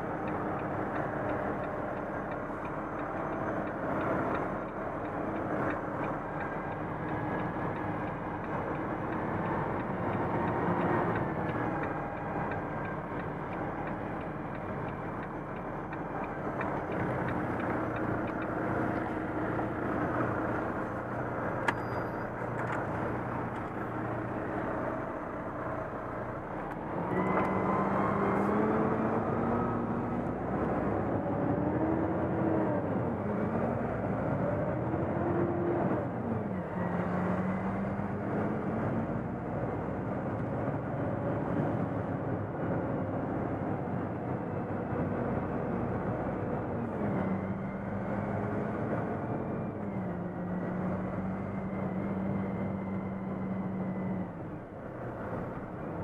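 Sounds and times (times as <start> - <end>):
truck diesel engine: 0.0 - 56.0.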